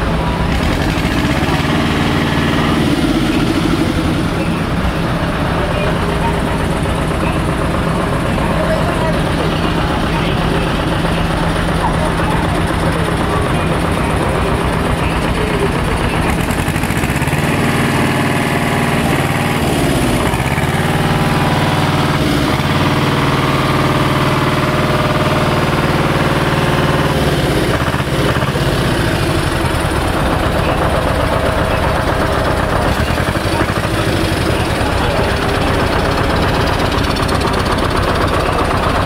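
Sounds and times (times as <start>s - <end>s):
large engine running: 0.0s - 39.0s.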